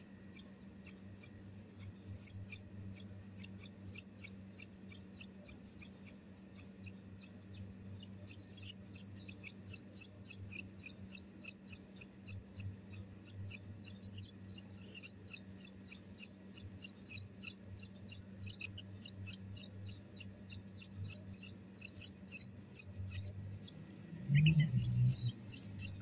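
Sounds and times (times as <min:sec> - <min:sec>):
low steady hum: 0:00.0 - 0:26.0
nestlings chirping: 0:00.0 - 0:26.0.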